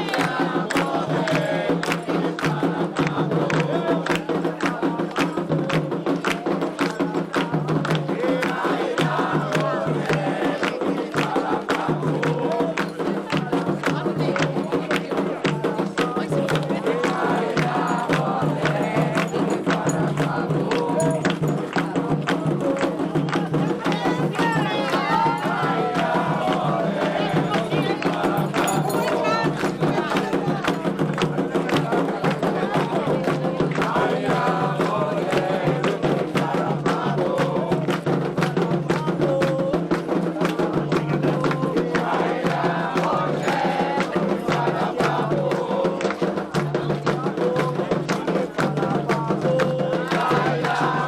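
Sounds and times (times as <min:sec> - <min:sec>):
drums and percussion strikes: 0:00.0 - 0:51.0
voices singing a chant: 0:00.0 - 0:51.0.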